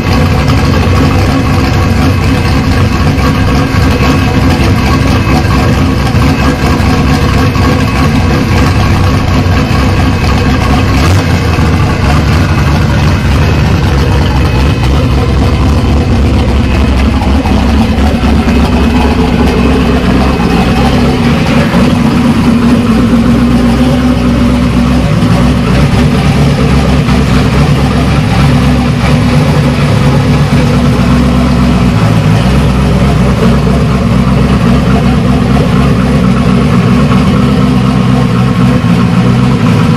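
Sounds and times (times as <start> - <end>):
car engine running at low revs: 0.0 - 39.9.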